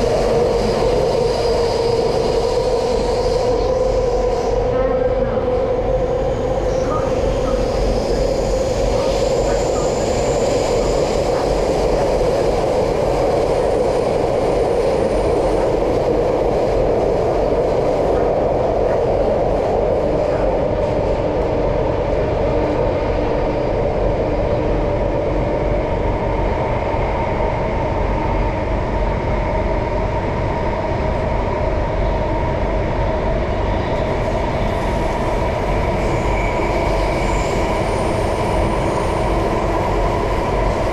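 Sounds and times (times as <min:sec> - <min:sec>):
faint train whine: 0:00.0 - 0:40.9
train wheels rumbling on rail: 0:00.0 - 0:40.9.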